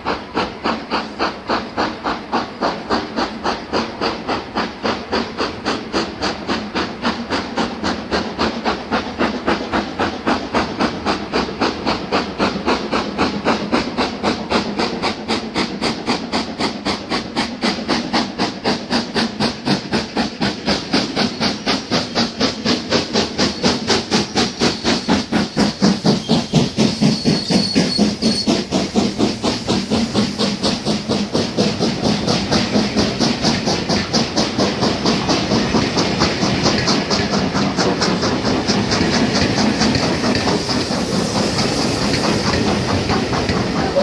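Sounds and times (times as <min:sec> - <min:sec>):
steam locomotive chimney exhaust beating: 0:00.0 - 0:44.0
train coaches rolling by: 0:00.0 - 0:44.0.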